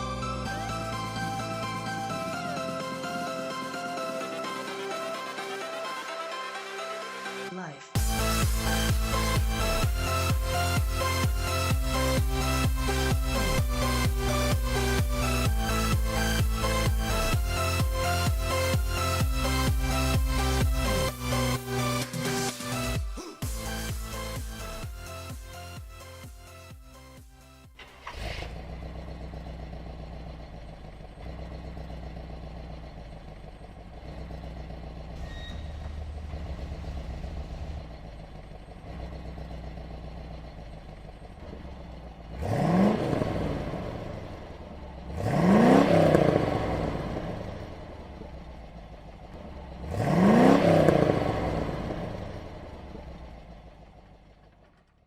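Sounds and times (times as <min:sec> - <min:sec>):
car engine idling: 0:00.0 - 0:07.2, 0:08.0 - 0:55.0
car engine revving: 0:00.0 - 0:07.2, 0:08.0 - 0:55.0
car engine starting: 0:00.0 - 0:55.0.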